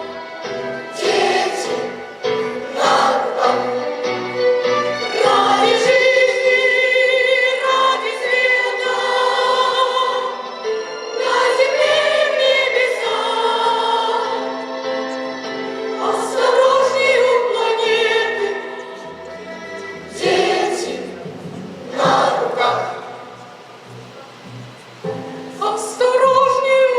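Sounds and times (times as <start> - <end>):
choir singing held notes: 0.0 - 26.9.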